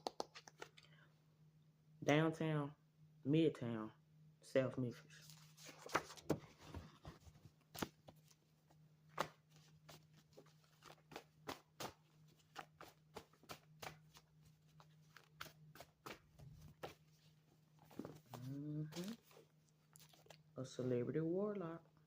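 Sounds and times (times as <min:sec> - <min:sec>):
faint low hum: 0:00.3 - 0:22.0.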